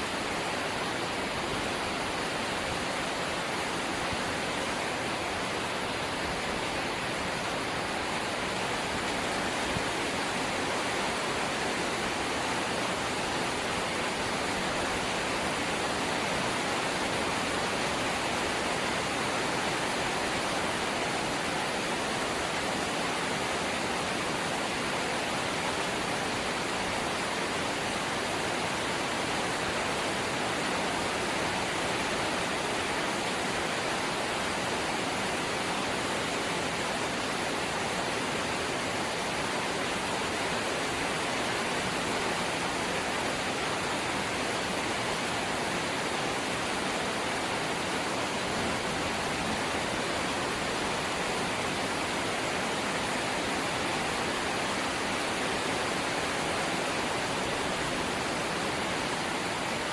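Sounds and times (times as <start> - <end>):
steady light rain: 0.0 - 59.9.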